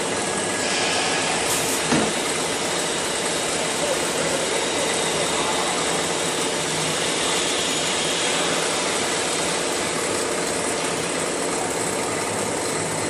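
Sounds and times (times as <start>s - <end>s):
router spindle hiss and whine: 0.0s - 12.8s.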